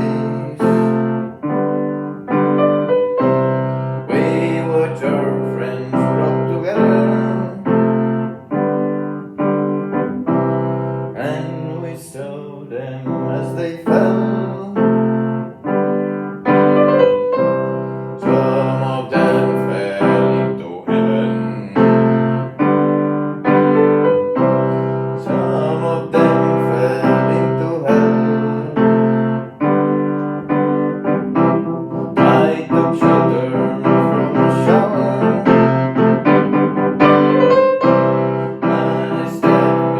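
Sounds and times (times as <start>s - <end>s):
slow piano song: 0.0s - 39.9s.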